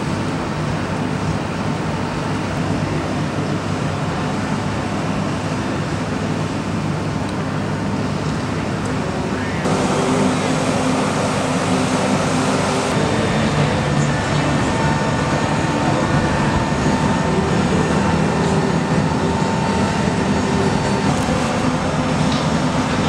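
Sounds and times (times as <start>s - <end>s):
machine drone with whine: 0.0s - 23.0s.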